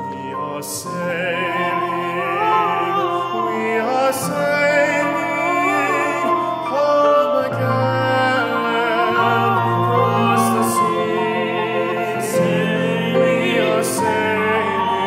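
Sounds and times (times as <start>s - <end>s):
men singing operatic duet: 0.0s - 15.0s
piano accompaniment: 0.0s - 15.0s.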